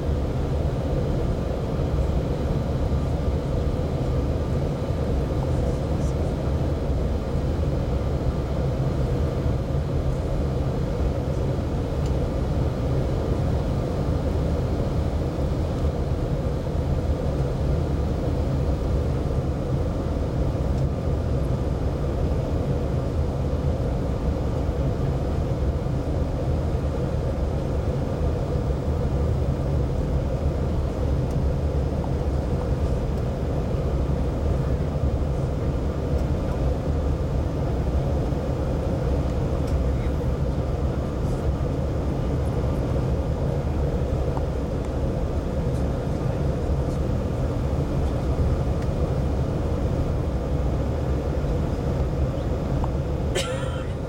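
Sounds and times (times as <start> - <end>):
airliner engines and airflow rumble: 0.0 - 54.0
faint steady hum: 0.0 - 54.0.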